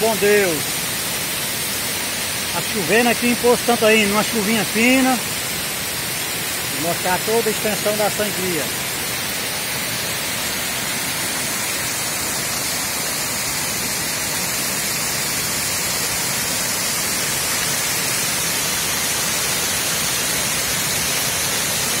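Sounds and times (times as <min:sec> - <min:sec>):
water pouring over spillway: 0:00.0 - 0:22.0.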